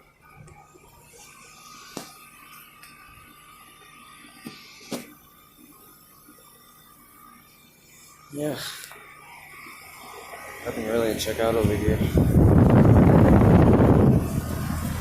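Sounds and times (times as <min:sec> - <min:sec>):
air conditioner hum and whine: 0:00.0 - 0:15.0.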